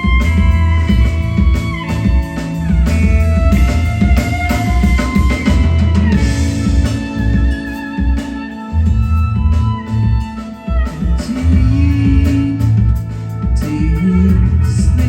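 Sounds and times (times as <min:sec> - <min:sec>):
bass guitar: 0:00.0 - 0:15.0
drum kit: 0:00.0 - 0:15.0
electric guitar lines: 0:00.0 - 0:15.0.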